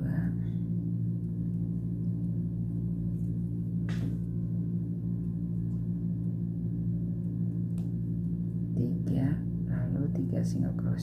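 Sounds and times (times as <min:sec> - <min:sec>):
low hum of held tones: 0:00.0 - 0:11.0.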